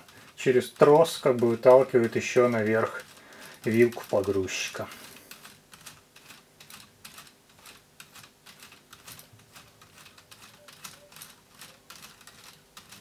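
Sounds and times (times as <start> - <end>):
plastic gears clicking: 0.0 - 13.0.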